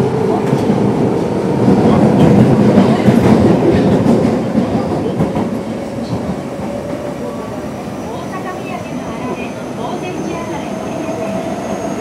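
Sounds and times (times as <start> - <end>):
dense train rumble: 0.0 - 12.0.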